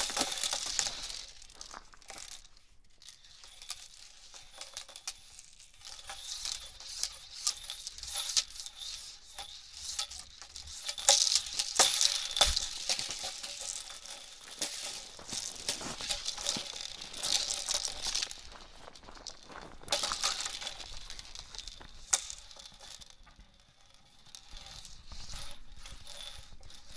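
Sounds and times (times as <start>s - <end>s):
hula hoop rattling: 0.0s - 26.9s.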